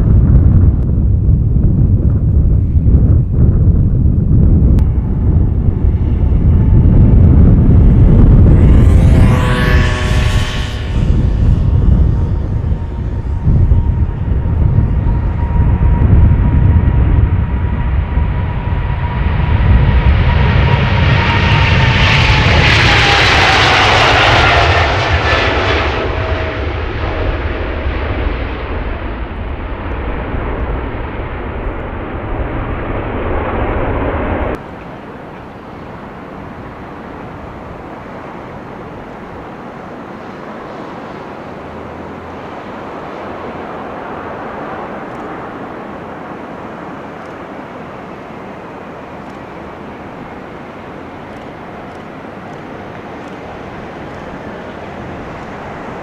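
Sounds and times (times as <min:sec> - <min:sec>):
jet airliner passing: 0:00.0 - 0:56.0
steady engine rumble: 0:00.0 - 0:56.0.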